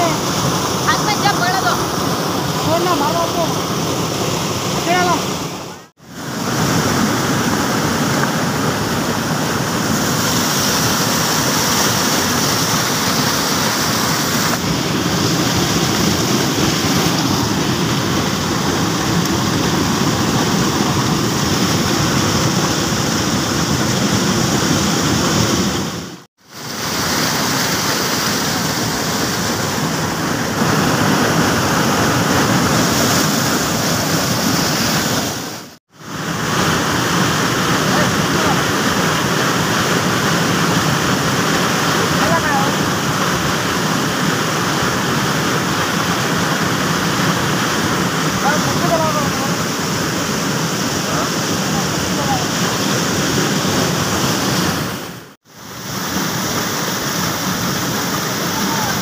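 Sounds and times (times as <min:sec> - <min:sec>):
river water rushing over rocks: 0:00.0 - 0:59.0.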